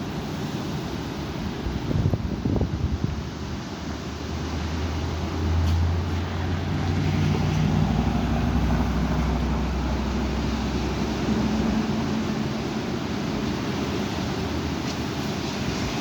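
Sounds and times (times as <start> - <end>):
strong wind buffeting microphone: 1.2 - 16.0.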